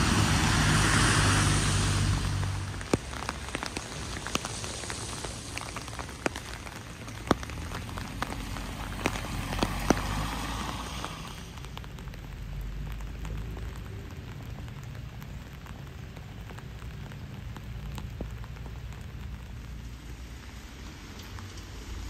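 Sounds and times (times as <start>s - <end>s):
rain falling steadily: 0.0s - 22.0s
drops ticking on surface: 2.3s - 21.7s.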